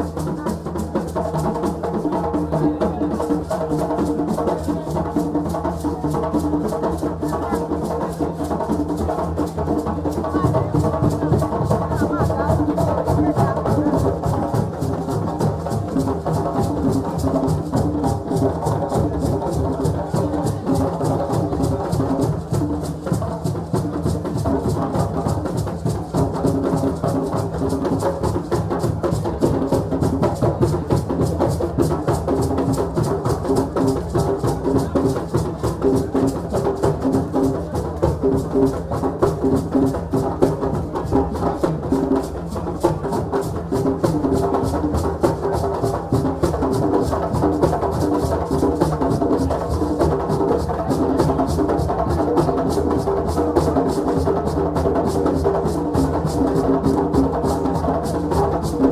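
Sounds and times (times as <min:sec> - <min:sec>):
drums and percussion playing: 0:00.0 - 0:58.9.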